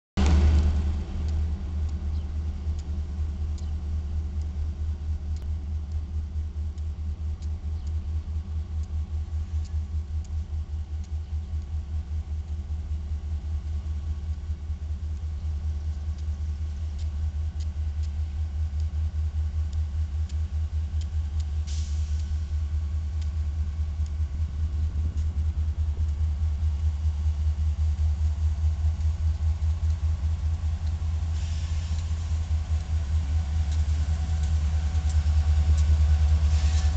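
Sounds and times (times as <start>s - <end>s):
diesel engine rumble: 0.2s - 36.9s.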